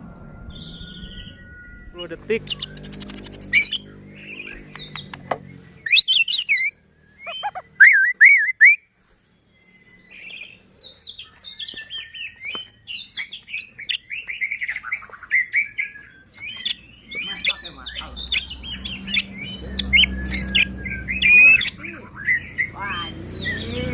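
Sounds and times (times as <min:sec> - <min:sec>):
songbird singing: 0:00.0 - 0:23.9.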